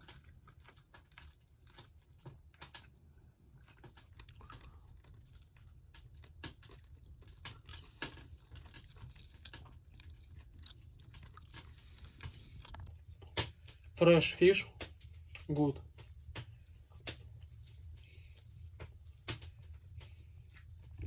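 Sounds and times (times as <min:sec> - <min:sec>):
person chewing food: 0:00.0 - 0:14.0, 0:14.7 - 0:21.0
low steady hum: 0:00.0 - 0:21.0.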